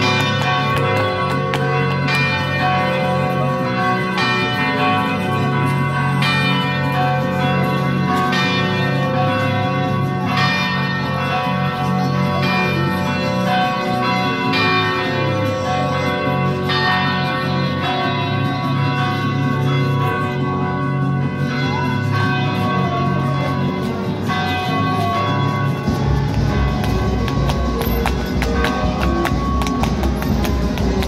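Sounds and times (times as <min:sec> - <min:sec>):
carillon bells ringing: 0:00.0 - 0:31.0.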